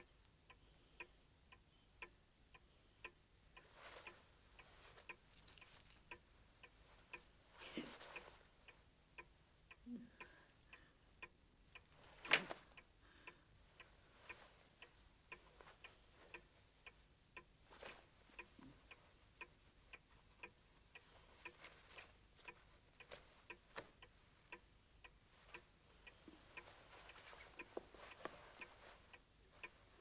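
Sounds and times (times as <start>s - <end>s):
clock ticking: 0.0s - 30.0s.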